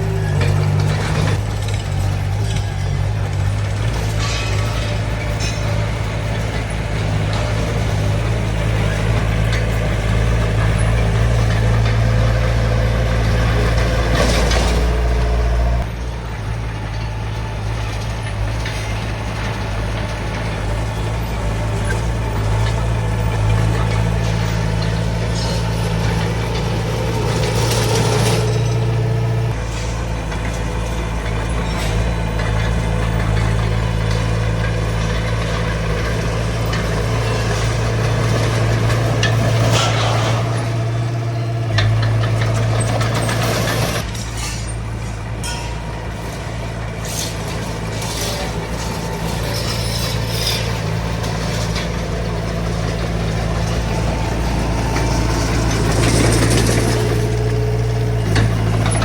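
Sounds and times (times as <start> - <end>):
bulldozer diesel engine: 0.0 - 59.0
metal clanks and scraping: 0.0 - 59.0.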